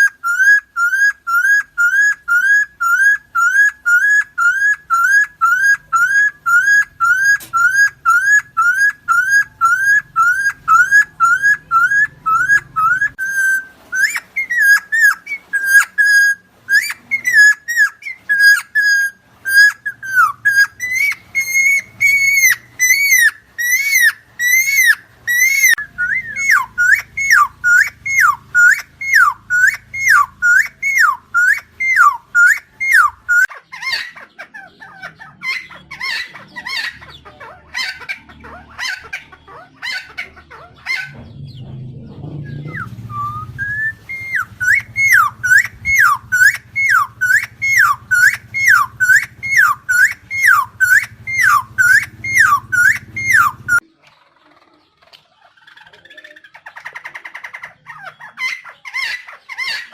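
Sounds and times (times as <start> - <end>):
bird calling: 0.0 - 59.9.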